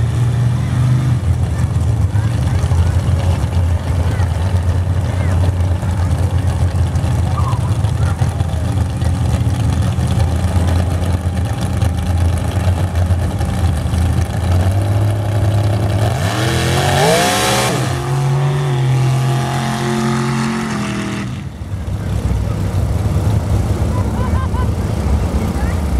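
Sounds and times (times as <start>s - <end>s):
truck engine idling and revving: 0.0s - 25.9s.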